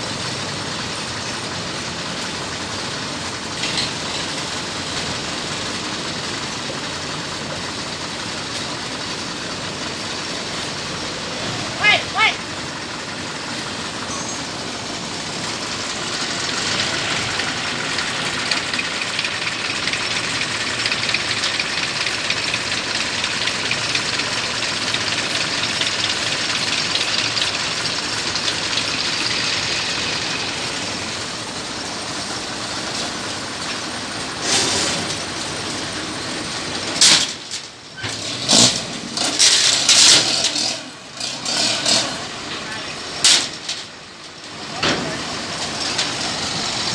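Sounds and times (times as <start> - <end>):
engine running steadily: 0.0 - 46.9.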